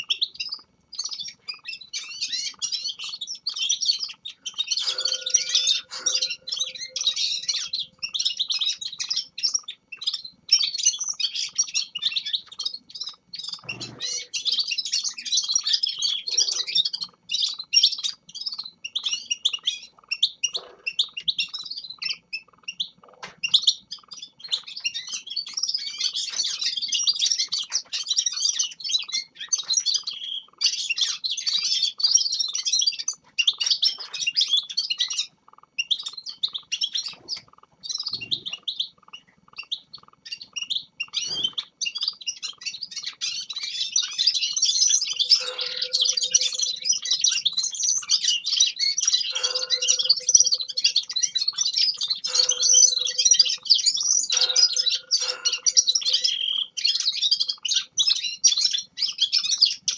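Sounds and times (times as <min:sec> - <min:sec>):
finches singing and twittering: 0:00.0 - 0:59.9.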